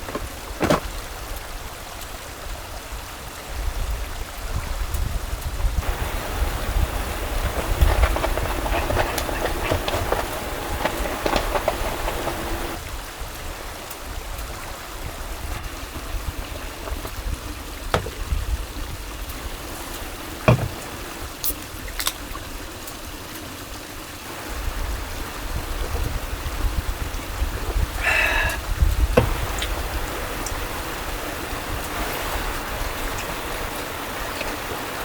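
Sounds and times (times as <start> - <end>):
stream flowing: 0.0 - 3.5, 5.8 - 35.0.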